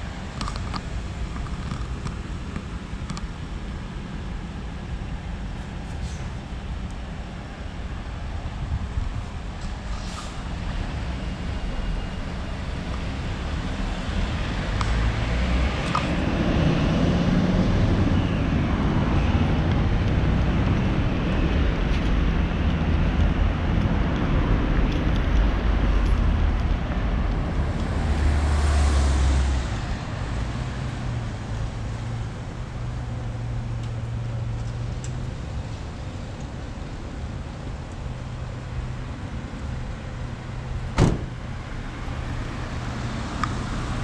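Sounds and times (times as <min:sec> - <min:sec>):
cars passing: 0:00.0 - 0:44.0
traffic low rumble: 0:00.0 - 0:44.0.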